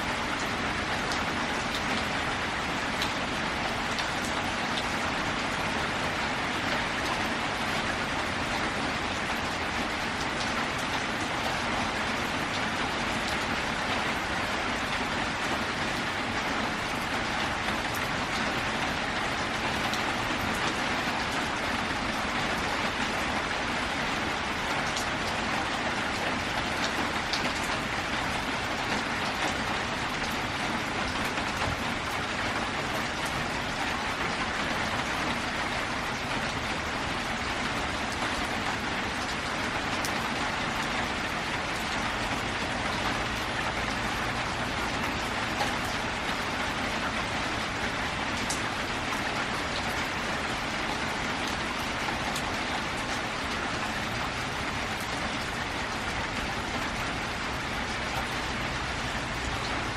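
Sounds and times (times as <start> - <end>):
rain drumming on a metal roof: 0.0 - 59.9.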